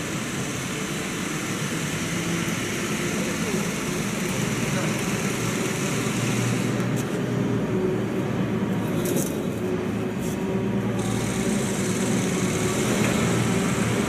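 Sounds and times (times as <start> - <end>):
mechanical running noise with hum: 0.0 - 14.0.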